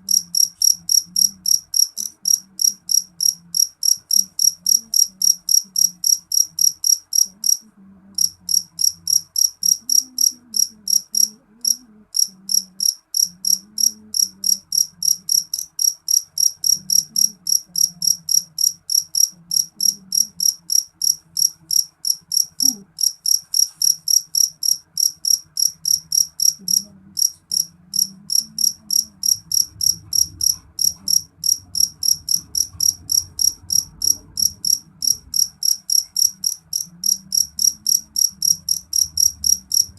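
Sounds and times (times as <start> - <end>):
cricket chirping: 0.0 - 7.6, 8.2 - 39.9.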